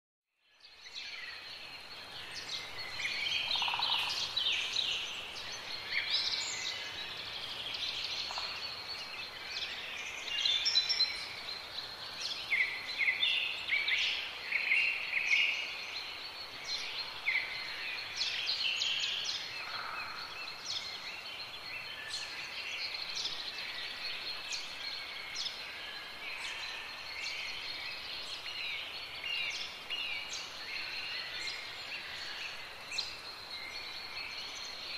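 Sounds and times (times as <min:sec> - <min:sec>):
small birds chirping: 0:00.4 - 0:34.9.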